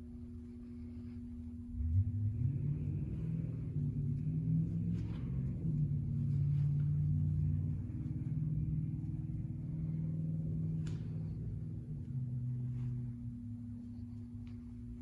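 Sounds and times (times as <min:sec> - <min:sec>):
truck engine running: 0:01.8 - 0:15.0.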